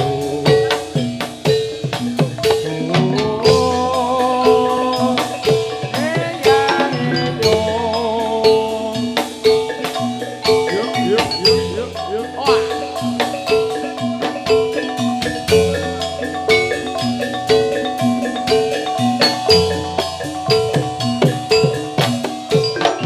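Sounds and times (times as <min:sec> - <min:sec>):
drum strokes: 0:00.0 - 0:23.0
metallophones ringing: 0:00.0 - 0:23.0
wavering melody line: 0:00.0 - 0:23.0.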